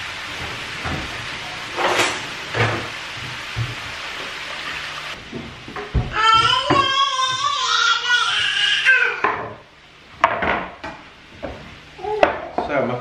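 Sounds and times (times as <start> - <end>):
food sizzling in pans: 0.0 - 12.4.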